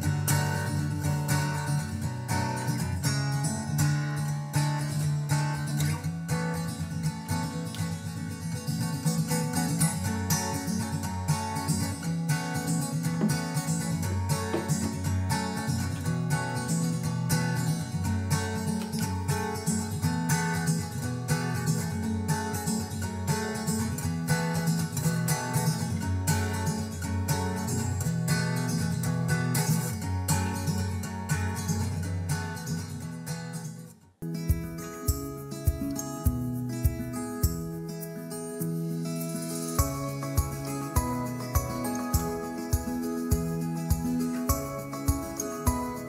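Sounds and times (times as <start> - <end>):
background music with plucked notes: 0.0 - 33.1, 34.2 - 46.0.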